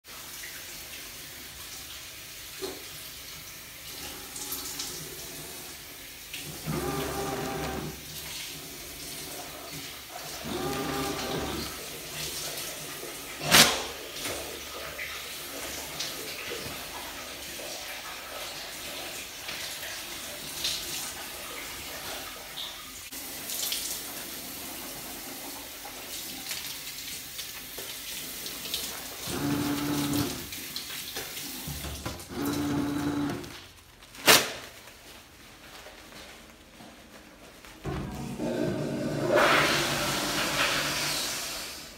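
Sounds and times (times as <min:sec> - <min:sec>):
water running from a tap: 0:00.0 - 0:33.6, 0:37.8 - 0:41.9.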